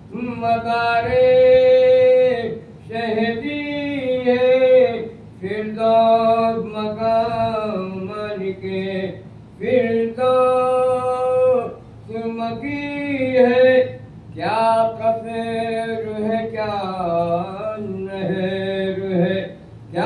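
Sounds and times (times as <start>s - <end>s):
man chanting unaccompanied: 0.0s - 20.0s.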